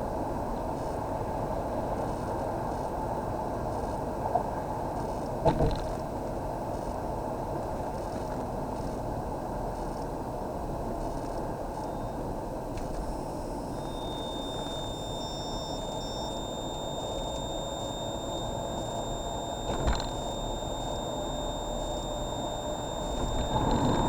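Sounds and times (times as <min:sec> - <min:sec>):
high-pitched whine from dashboard: 0:00.0 - 0:24.0.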